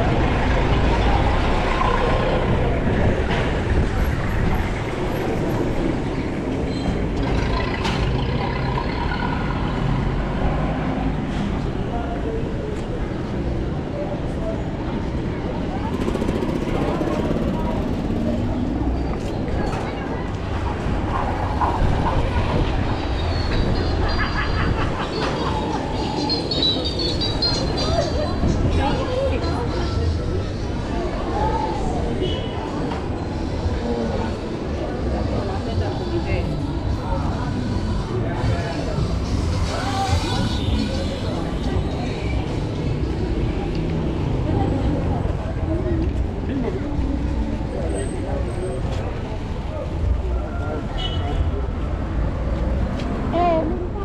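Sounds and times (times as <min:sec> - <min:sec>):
faint voices: 0:00.0 - 0:54.0
traffic rumble: 0:00.0 - 0:54.0.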